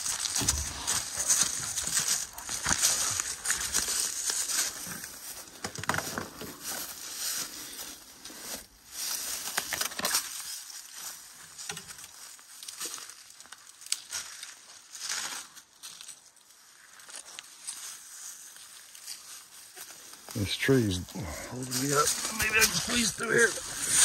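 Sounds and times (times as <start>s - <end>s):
footsteps crunching through dry leaves: 0.0s - 20.5s, 21.5s - 24.0s.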